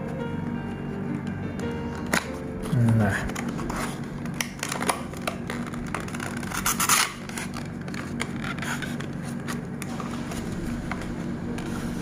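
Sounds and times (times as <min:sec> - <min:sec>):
paper and plastic scraping: 0:02.0 - 0:12.0.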